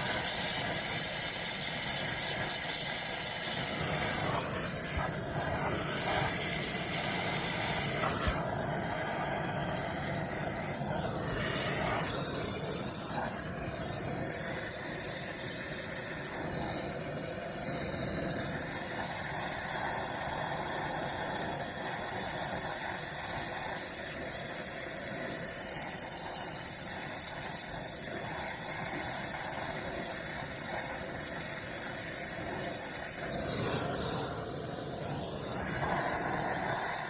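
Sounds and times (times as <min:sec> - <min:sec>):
torch flame hissing: 0:00.0 - 0:37.0.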